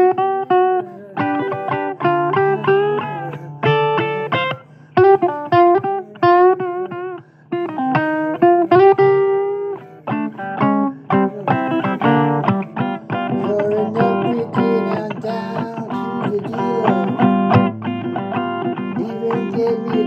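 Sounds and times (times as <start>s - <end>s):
blues guitar lead: 0.0s - 20.0s.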